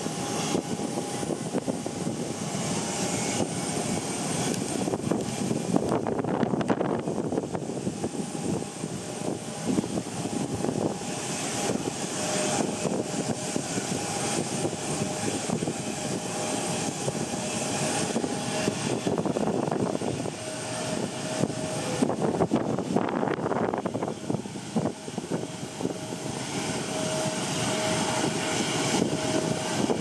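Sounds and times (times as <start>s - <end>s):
jet engines whining: 0.0s - 30.0s
wind noise on microphone: 0.0s - 30.0s.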